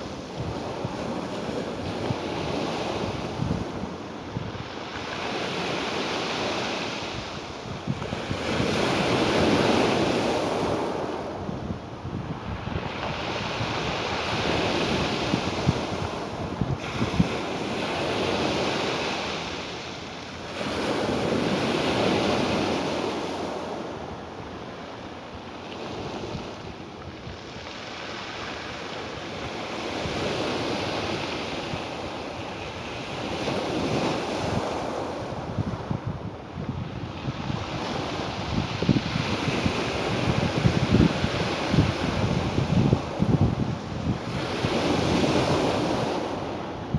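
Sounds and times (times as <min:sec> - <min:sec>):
ocean surf washing ashore: 0:00.0 - 0:46.9.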